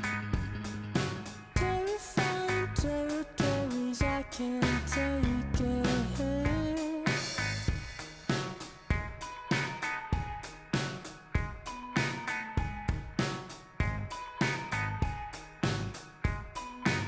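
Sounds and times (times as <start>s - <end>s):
bass: 0.0s - 10.8s, 13.8s - 17.0s
steady drum beat: 0.0s - 17.0s.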